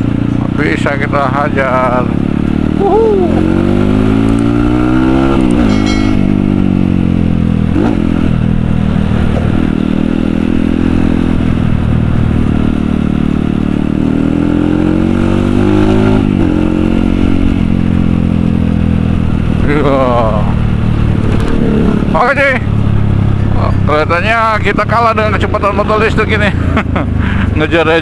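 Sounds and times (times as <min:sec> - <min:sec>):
dirt bike engine accelerating: 0:00.0 - 0:27.6.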